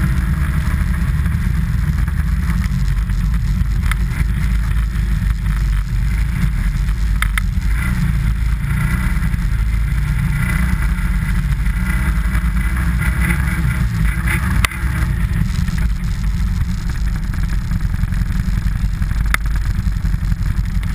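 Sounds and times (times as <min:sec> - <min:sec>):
sled scraping over snow: 0:00.0 - 0:20.9.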